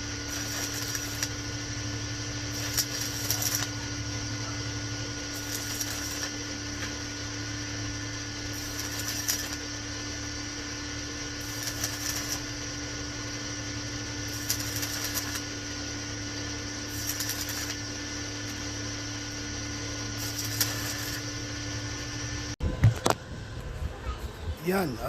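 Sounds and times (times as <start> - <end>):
welding arc crackling: 0.0 - 22.6
low welder hum: 0.0 - 25.0.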